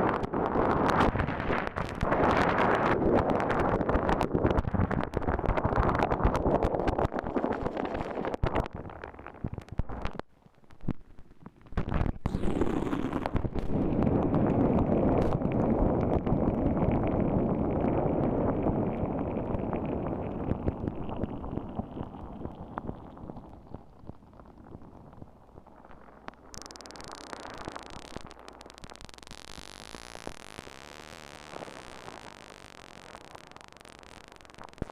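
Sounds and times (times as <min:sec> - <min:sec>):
boiling water bubbling: 0:00.0 - 0:34.9.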